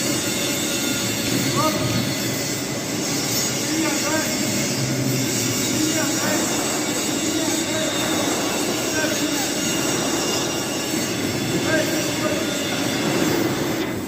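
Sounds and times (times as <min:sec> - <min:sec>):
welding arc crackling and hissing: 0:00.0 - 0:14.0.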